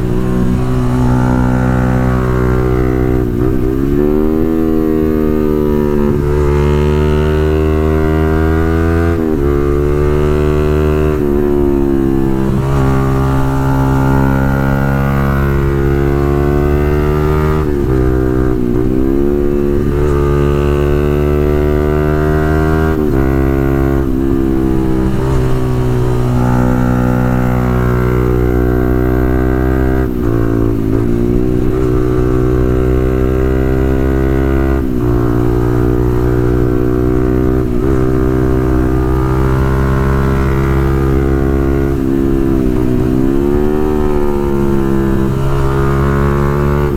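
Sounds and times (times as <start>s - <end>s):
motorcycle engine exhaust note: 0.0s - 46.9s.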